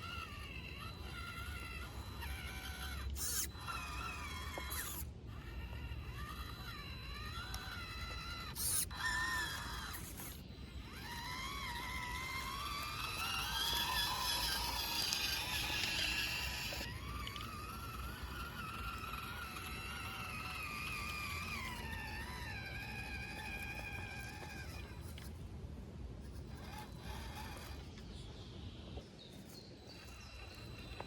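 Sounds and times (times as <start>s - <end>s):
rc car motor whining: 0.0s - 25.4s, 26.2s - 31.0s.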